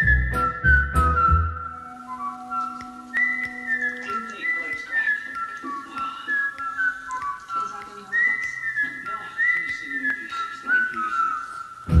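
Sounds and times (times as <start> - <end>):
whistled tune: 0.0 - 12.0.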